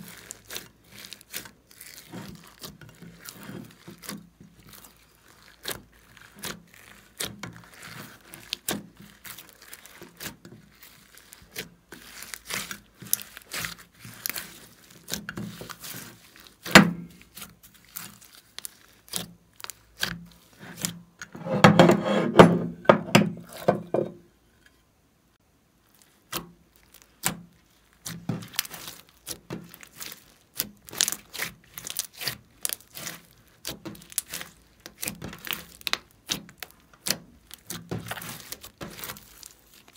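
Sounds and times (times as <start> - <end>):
slime squelching: 0.0 - 21.6, 25.8 - 39.9.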